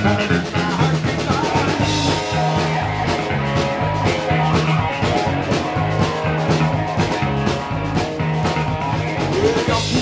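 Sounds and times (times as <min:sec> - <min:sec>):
drum kit beat: 0:00.0 - 0:10.0
electric guitars: 0:00.0 - 0:10.0
low bass line: 0:00.0 - 0:10.0.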